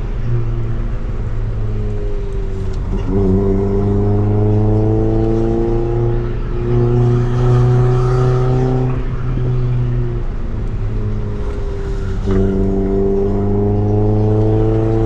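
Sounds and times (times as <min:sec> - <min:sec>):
car engine through exhaust: 0:00.0 - 0:15.0.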